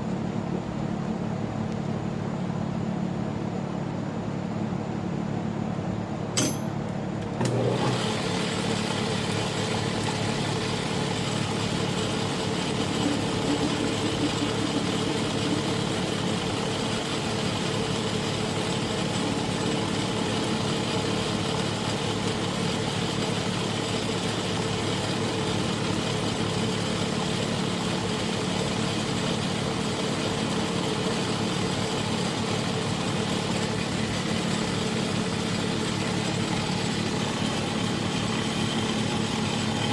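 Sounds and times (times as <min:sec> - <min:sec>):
metal lathe motor hum: 0:07.4 - 0:39.9.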